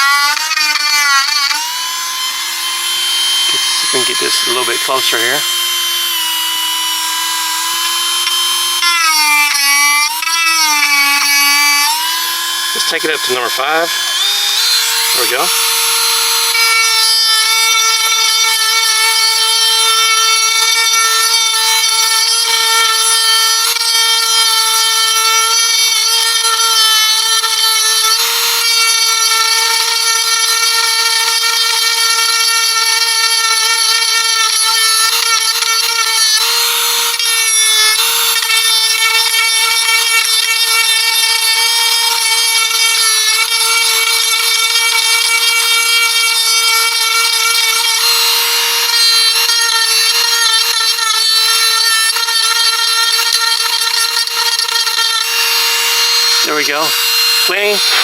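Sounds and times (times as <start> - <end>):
bit rasping into wood: 0.0 - 58.0
rotary tool whining: 0.0 - 58.0.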